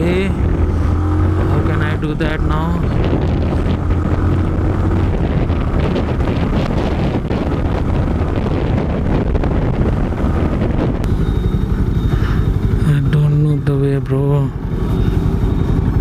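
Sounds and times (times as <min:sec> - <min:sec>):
motorcycle engine low note: 0:00.0 - 0:16.0
wind buffeting microphone: 0:00.0 - 0:16.0.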